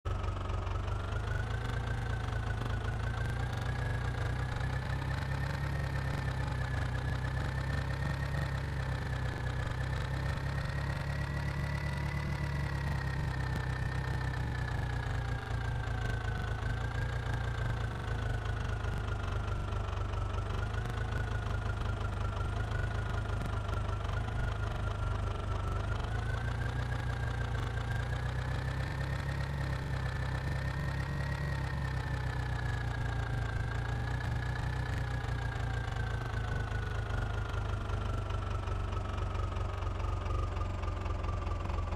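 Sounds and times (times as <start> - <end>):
tractor diesel engine idling: 0.1 - 41.9.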